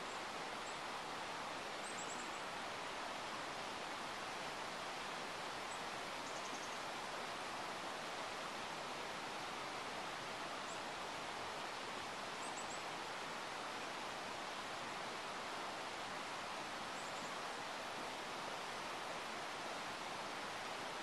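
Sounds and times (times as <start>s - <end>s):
creek rushing: 0.0s - 21.0s.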